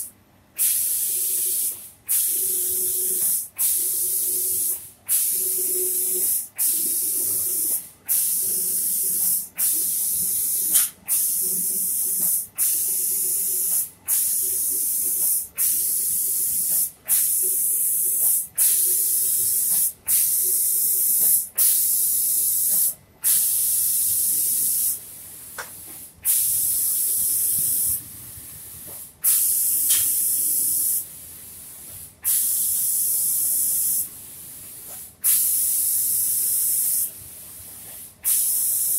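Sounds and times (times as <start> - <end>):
spray gun hissing: 0.6 - 25.0, 26.2 - 28.0, 28.6 - 37.2, 38.2 - 38.9.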